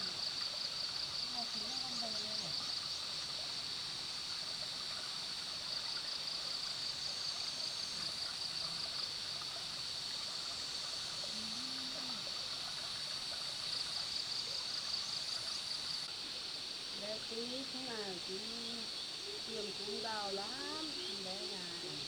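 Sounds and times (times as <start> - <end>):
continuous rushing hiss: 0.0 - 22.0
insects trilling: 0.0 - 22.0.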